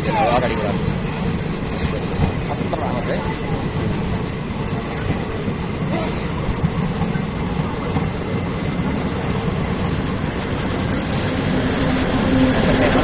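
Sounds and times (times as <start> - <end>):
train passing with low rumble: 0.0 - 13.0.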